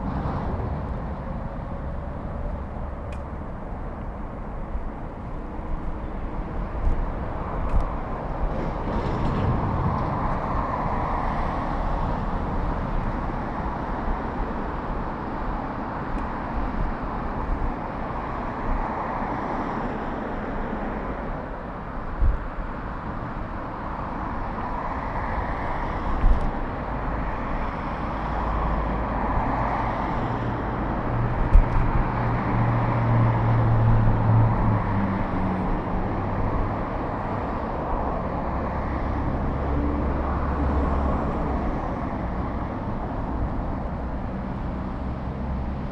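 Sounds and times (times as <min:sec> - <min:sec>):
road and wind noise: 0:00.0 - 0:45.9.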